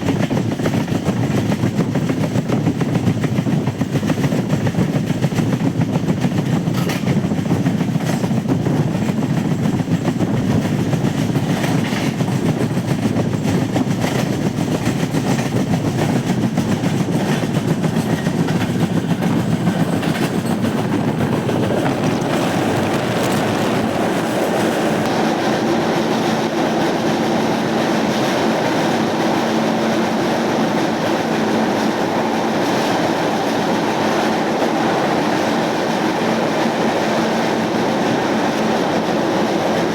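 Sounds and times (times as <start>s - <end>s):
train rumbling on rails: 0.0s - 39.9s
wheels clacking over rail joints: 0.0s - 39.9s.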